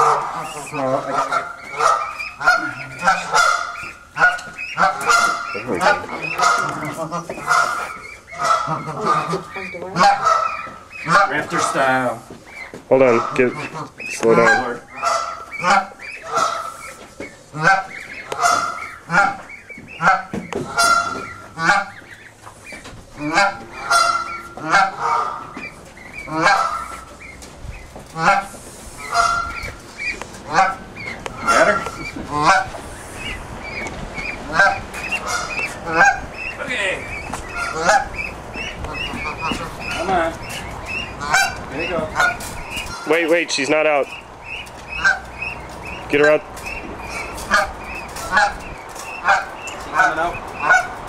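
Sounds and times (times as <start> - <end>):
goose honking: 0.0 - 51.0.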